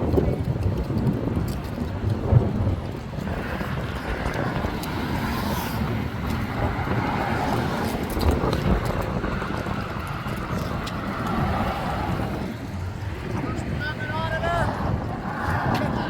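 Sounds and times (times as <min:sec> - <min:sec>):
wind rumbling on microphone: 0:00.0 - 0:16.0
road traffic: 0:00.1 - 0:16.0.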